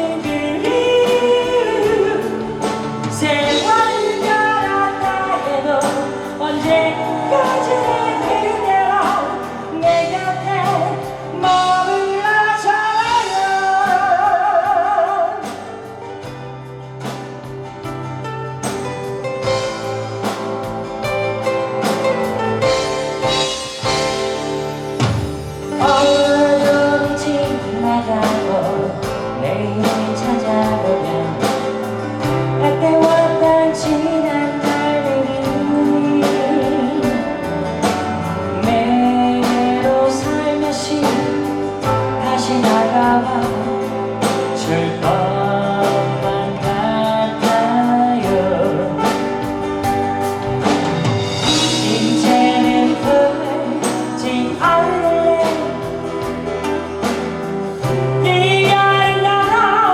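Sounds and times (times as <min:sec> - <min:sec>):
bending lead melody: 0:00.0 - 0:34.6, 0:35.5 - 0:59.9
live band playing slow ballad: 0:00.0 - 0:59.9.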